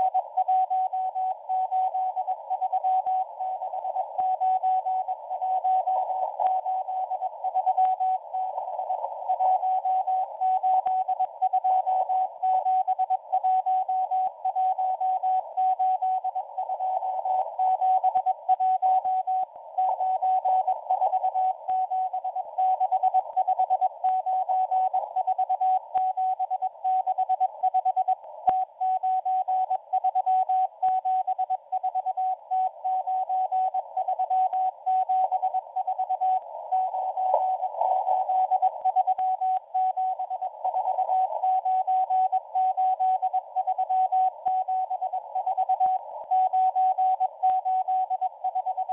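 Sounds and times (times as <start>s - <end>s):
radio static hiss and crackle: 0.0s - 48.9s
morse code beeps: 9.4s - 48.9s.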